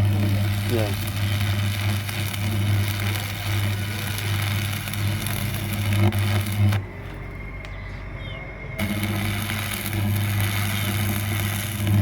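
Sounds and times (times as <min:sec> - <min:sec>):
crackling hiss: 0:00.0 - 0:06.8, 0:08.8 - 0:12.0
low electrical hum: 0:00.0 - 0:12.0.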